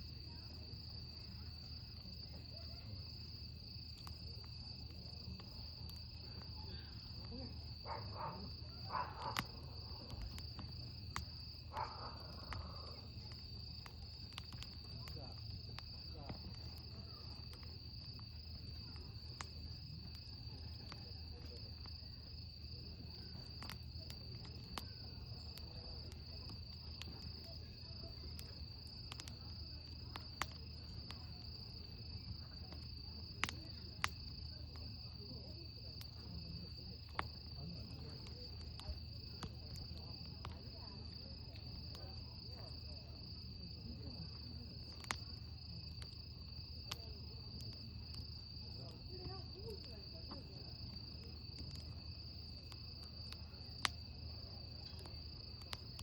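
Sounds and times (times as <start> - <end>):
crickets chirping: 0.0 - 56.0
wood fire crackling and popping: 0.0 - 56.0.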